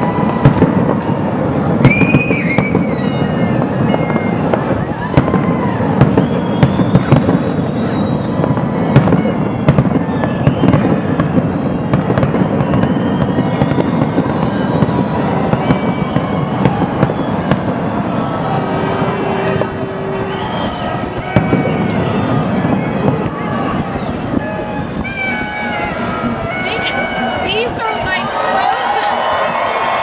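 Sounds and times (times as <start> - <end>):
low rumble of bursting shells: 0.0 - 26.6
firework bangs and crackles: 0.0 - 30.0.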